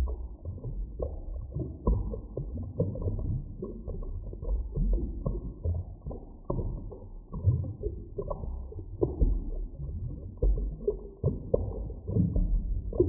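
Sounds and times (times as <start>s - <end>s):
deep underwater rumble: 0.0s - 13.0s
underwater bubbling and gurgling: 0.0s - 13.0s.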